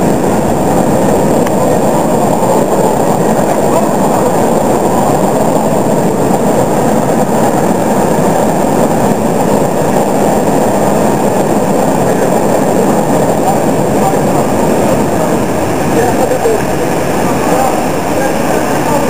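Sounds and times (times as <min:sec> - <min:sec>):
steam locomotive moving: 0:00.0 - 0:19.0.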